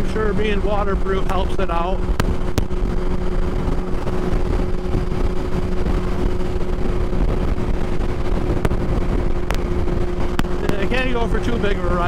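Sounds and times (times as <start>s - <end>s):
motorcycle engine cruising: 0.0s - 12.0s
wind noise on microphone: 0.0s - 12.0s.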